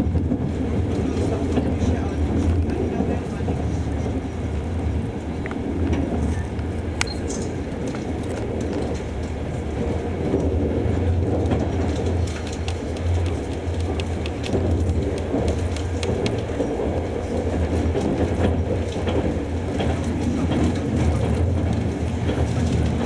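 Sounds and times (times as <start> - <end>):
train rumbling inside coach: 0.0 - 23.0.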